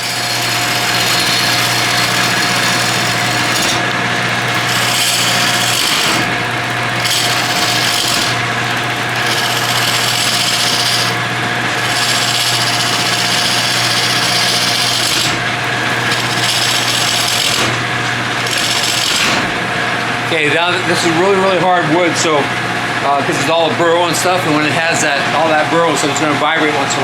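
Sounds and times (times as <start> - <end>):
turning tool scraping wood: 0.0 - 22.4
lathe motor hum: 0.0 - 27.0.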